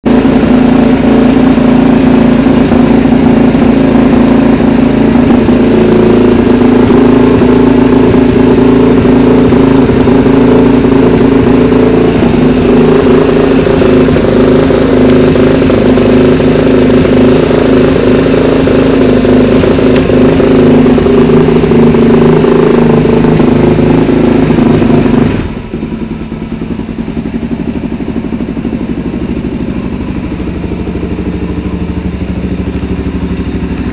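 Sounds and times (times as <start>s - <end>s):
loud motorcycle engine revving: 0.0s - 33.9s.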